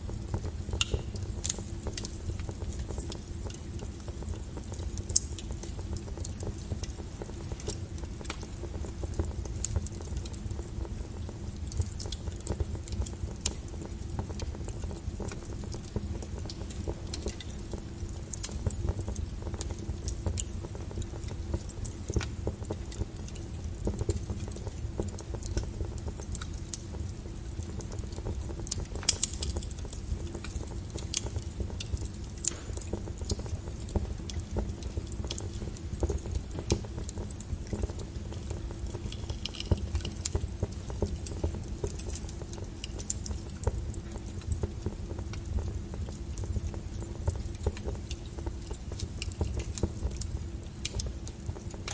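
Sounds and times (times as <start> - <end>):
fire crackling and popping: 0.0 - 51.9
low fire rumble: 0.0 - 51.9.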